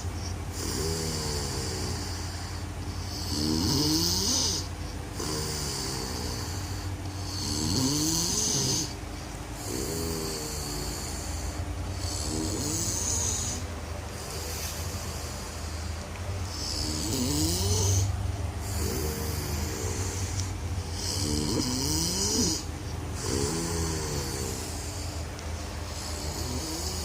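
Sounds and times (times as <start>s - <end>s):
person snoring: 0.0s - 9.0s, 9.6s - 25.3s, 25.9s - 27.0s
low steady hum: 0.0s - 27.0s.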